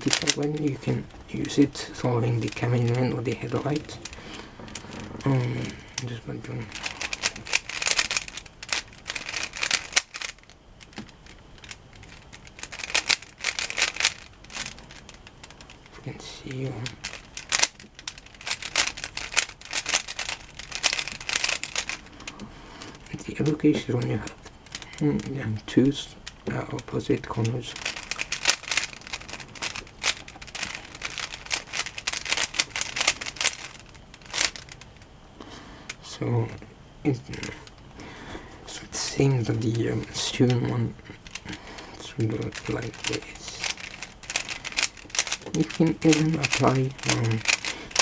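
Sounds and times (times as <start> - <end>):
puzzle cube clicking: 0.0 - 15.9, 16.5 - 35.1, 40.0 - 48.0.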